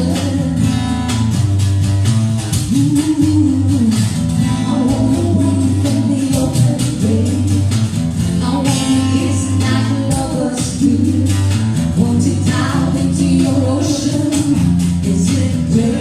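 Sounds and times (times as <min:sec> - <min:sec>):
person singing: 0:00.0 - 0:00.9, 0:02.6 - 0:16.0
acoustic guitar playing: 0:00.0 - 0:16.0
light percussion: 0:00.0 - 0:16.0.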